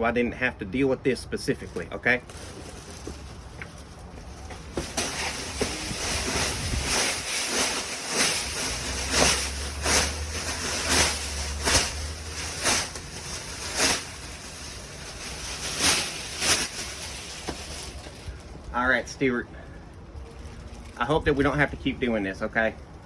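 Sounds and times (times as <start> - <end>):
dry leaves rustling: 1.4 - 18.9, 20.1 - 21.7.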